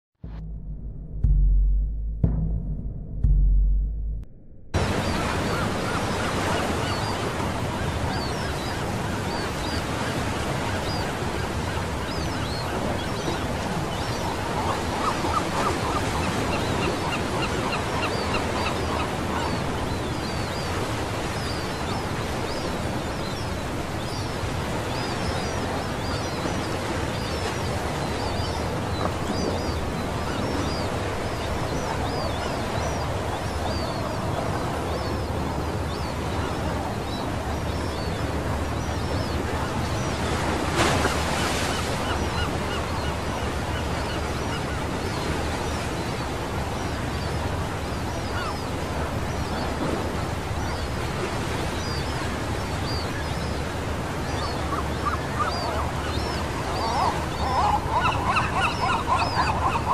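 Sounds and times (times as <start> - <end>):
bird calls: 4.8 - 59.9
sea waves washing onto beach: 4.8 - 59.9.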